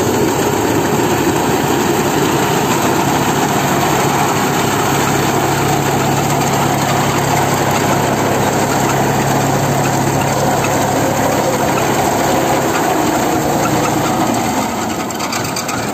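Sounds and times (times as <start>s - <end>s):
tractor engine running: 0.0s - 15.9s
reaper cutter clatter: 0.7s - 15.9s.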